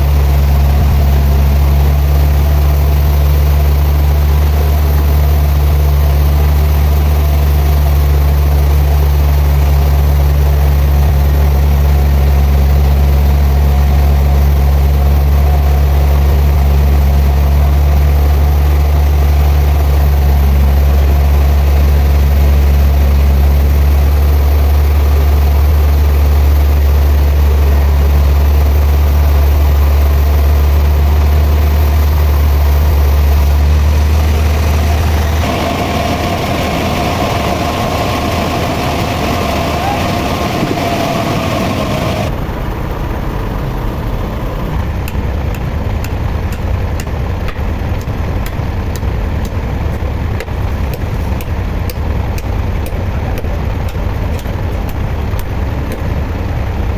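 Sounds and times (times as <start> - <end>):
heavy engine droning: 0.0 - 56.9.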